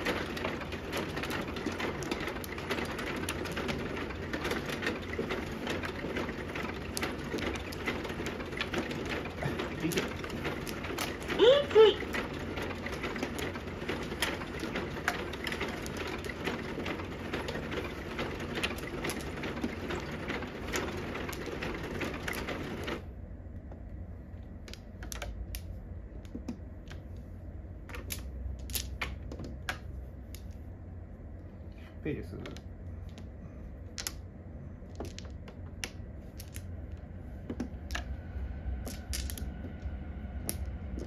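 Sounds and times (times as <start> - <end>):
mahjong tiles clicking: 0.0 - 23.0, 23.6 - 30.7, 32.4 - 41.0
low steady hum: 0.0 - 41.0.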